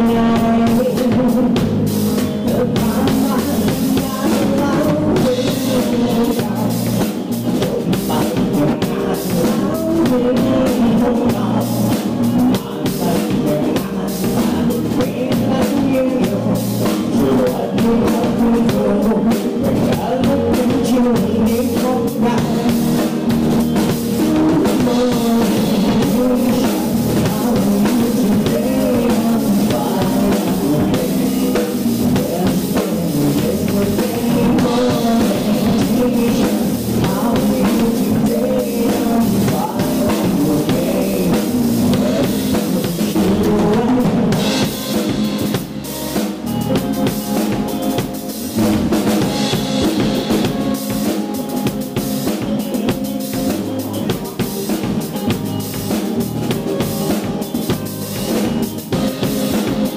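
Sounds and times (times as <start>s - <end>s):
drum kit beat: 0.0s - 59.9s
live rock band playing: 0.0s - 59.9s.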